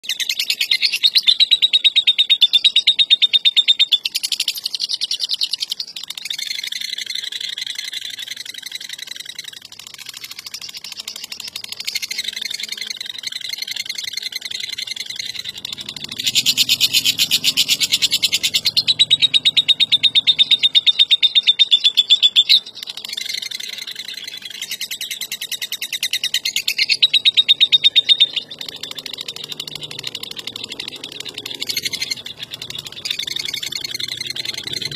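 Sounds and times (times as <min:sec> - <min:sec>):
lovebird chattering: 0:00.0 - 0:34.9.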